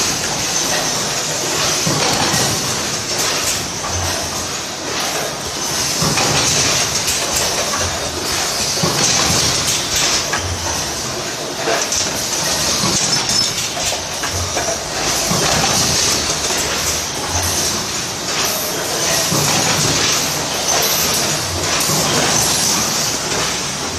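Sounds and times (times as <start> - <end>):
machine clatter of clicks: 0.0 - 23.9.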